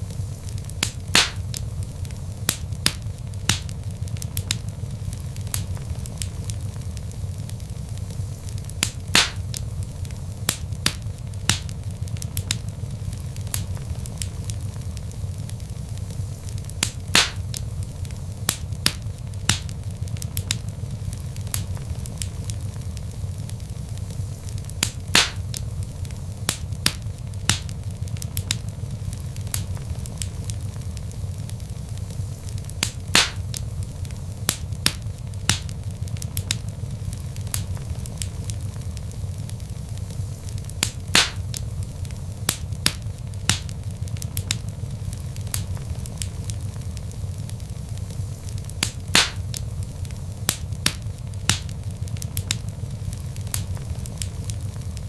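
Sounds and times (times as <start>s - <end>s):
log fire crackling: 0.0s - 55.0s
low rumble of flames: 0.0s - 55.0s.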